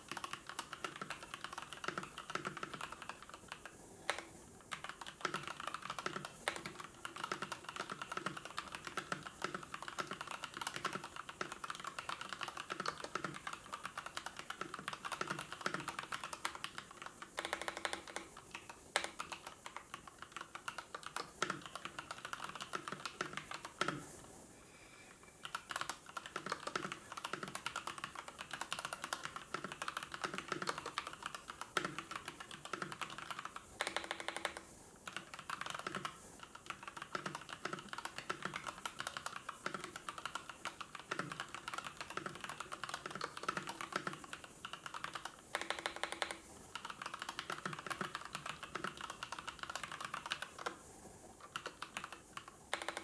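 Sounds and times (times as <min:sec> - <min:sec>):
typing on computer keyboard: 0:00.0 - 0:24.2, 0:25.4 - 0:53.0.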